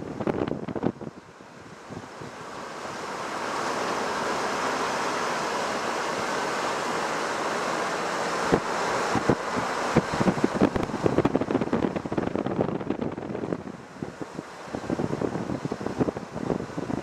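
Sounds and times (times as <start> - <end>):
wind rushing over microphone: 0.0 - 6.4, 8.3 - 17.0.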